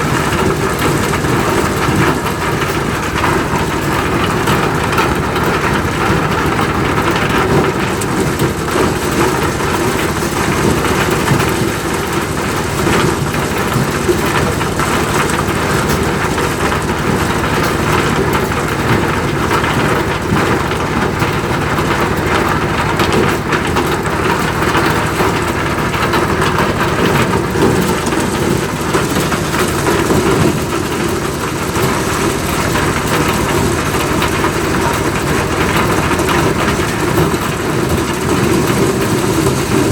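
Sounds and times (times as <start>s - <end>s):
engine hum: 0.0s - 39.9s
rushing noise of threshing: 0.0s - 39.9s.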